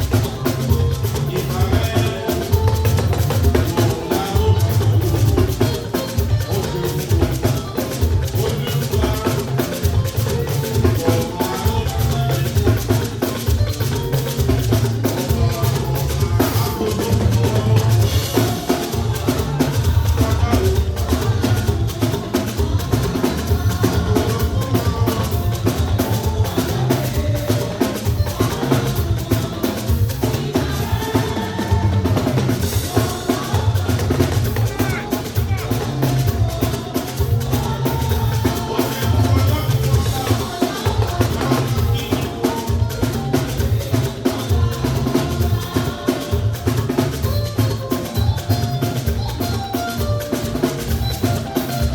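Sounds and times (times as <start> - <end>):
drum kit beat: 0.0 - 51.9
live band music: 0.0 - 51.9.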